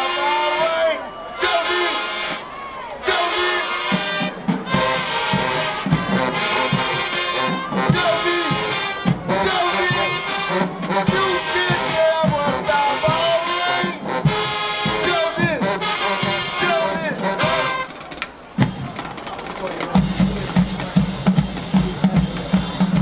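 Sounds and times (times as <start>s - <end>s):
marching band brass playing: 0.0s - 23.0s.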